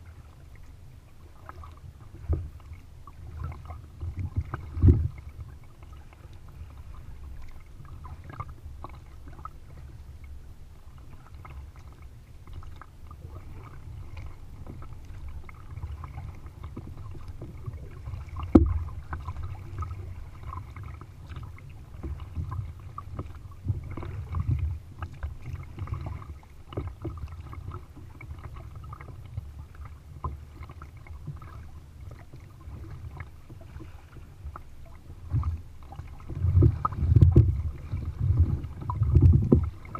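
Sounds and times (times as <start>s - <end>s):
low steady rumble: 0.0s - 39.9s
paddle splashing in water: 0.0s - 39.9s.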